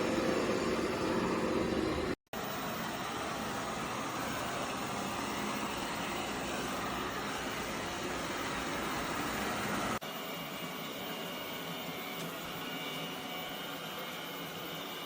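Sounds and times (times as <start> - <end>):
robot vacuum cleaner running: 0.0 - 15.0.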